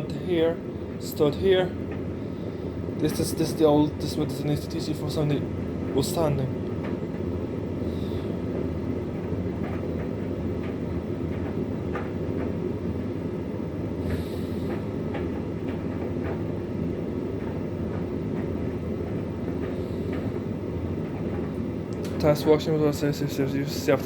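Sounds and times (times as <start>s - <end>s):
tumble dryer rumbling: 0.0s - 24.0s.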